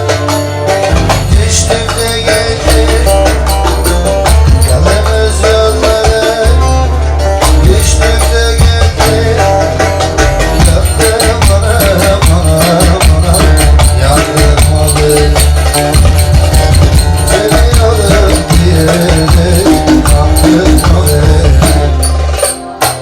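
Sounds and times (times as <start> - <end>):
heavy bass beat: 0.0 - 22.5.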